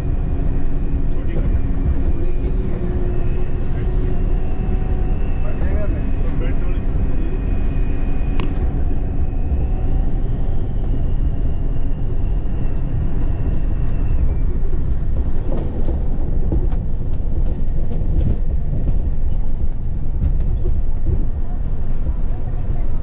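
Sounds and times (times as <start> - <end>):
bus engine and tyres rumbling: 0.0 - 23.0.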